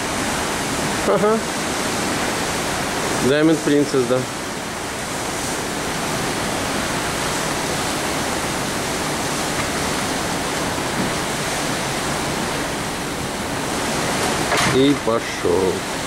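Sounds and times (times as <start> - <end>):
wind and water rushing: 0.0 - 16.0.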